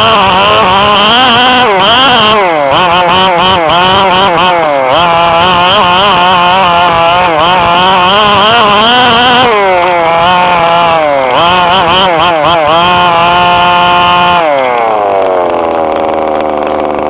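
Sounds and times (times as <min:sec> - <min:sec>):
small engine revving: 0:00.0 - 0:17.0.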